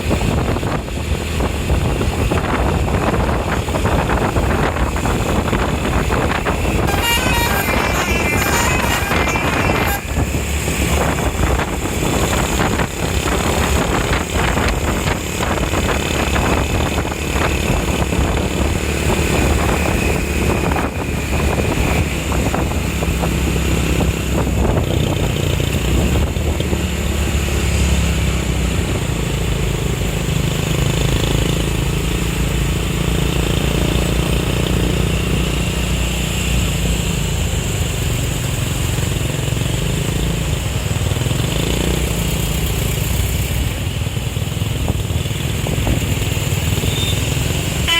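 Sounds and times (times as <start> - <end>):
traffic noise: 0.0 - 47.9
vehicle engine running: 0.0 - 47.9.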